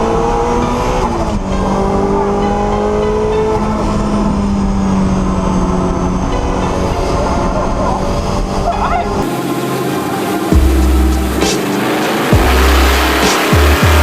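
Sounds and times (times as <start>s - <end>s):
car engine running hard: 0.0s - 14.0s.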